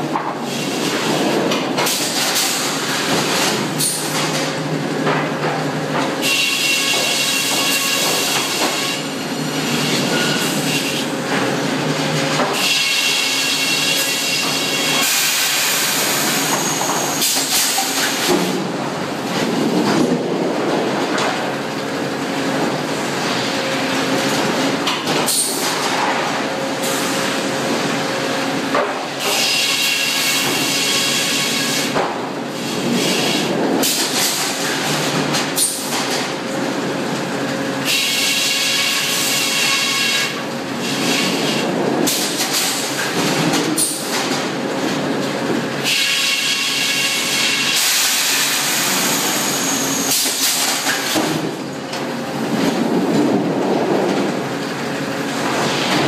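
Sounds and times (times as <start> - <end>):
clatter of mill machinery: 0.0 - 56.0.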